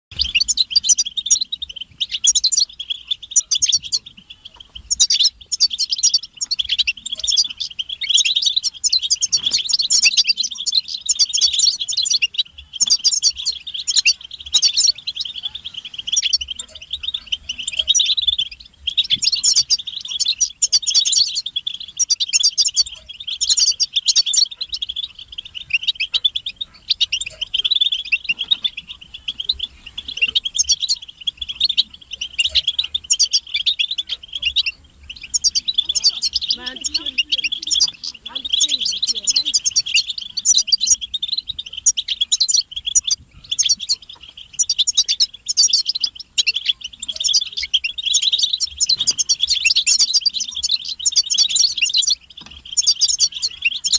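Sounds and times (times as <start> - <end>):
goldfinches twittering: 0.1 - 53.9.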